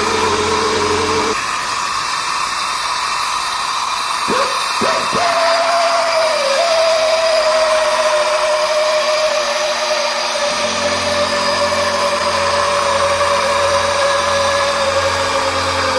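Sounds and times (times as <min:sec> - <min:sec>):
chopper gun motor whine: 0:00.0 - 0:15.9
low hum: 0:00.0 - 0:15.9.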